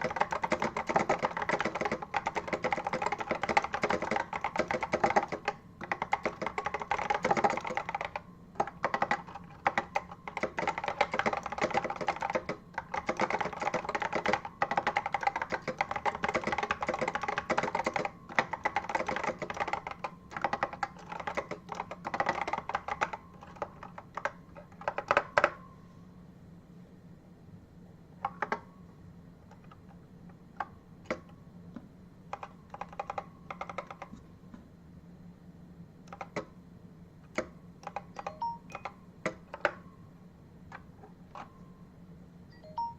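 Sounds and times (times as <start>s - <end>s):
clicky keyboard typing: 0.0s - 25.6s, 28.2s - 28.7s, 29.4s - 31.4s, 32.3s - 34.2s, 36.0s - 36.6s, 37.2s - 40.0s, 40.7s - 41.6s, 42.5s - 42.9s.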